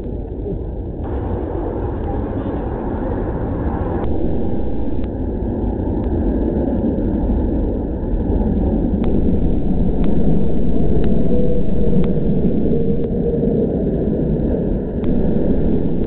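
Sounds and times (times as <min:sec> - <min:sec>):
jet engines rumbling overhead: 0:00.0 - 0:16.0.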